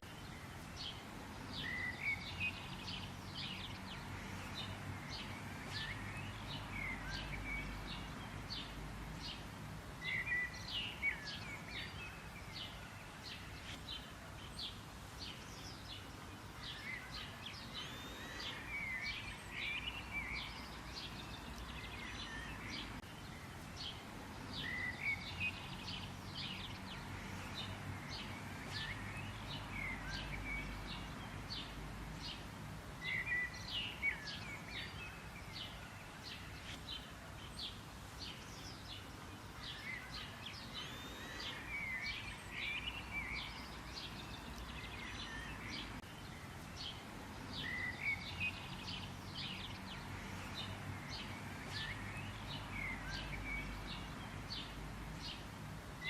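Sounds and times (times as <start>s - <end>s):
faint outdoor rumble: 0.0s - 56.0s
songbirds chirping: 0.0s - 56.0s.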